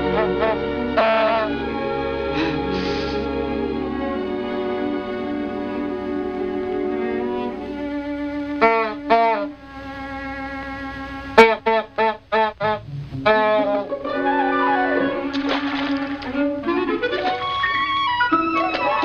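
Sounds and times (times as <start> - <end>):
orchestral cartoon music: 0.0 - 19.0.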